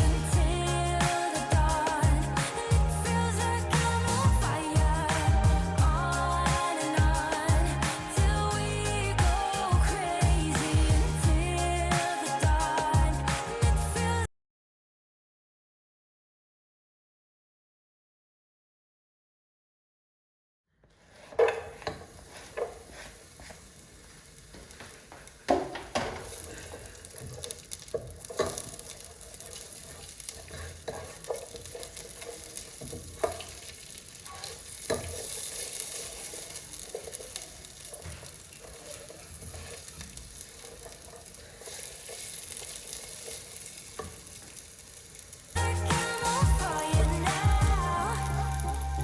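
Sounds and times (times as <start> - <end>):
food sizzling in a pan: 0.0 - 14.2, 21.1 - 49.0.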